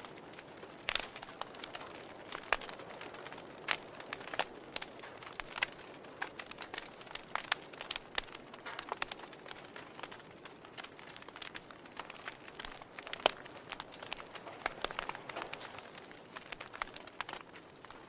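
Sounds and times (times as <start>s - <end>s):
campfire crackling and popping: 0.0s - 18.0s
faint steady hiss: 0.0s - 18.0s.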